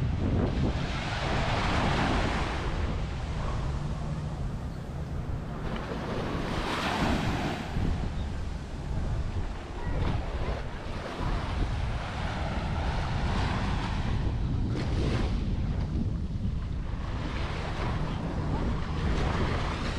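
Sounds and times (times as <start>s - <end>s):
waves washing on sandy beach: 0.0s - 19.9s
wind rumbling on microphone: 0.0s - 19.9s.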